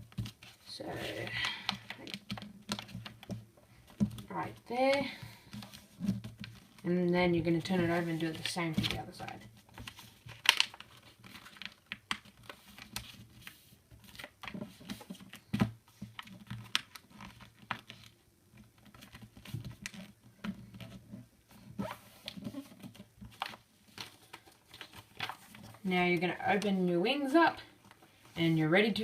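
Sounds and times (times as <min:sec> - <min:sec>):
paper crinkling and rustling: 0:00.0 - 0:06.8, 0:07.5 - 0:26.8.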